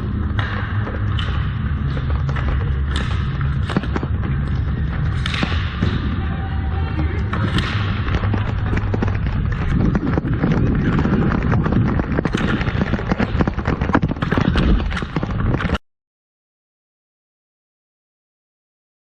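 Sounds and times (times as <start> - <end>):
continuous low rumble: 0.0 - 15.8
hockey sticks and ball clacking: 0.0 - 15.8.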